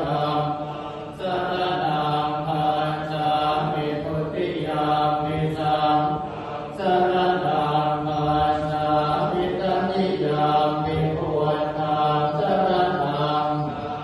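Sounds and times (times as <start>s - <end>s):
male voices chanting: 0.0s - 14.0s.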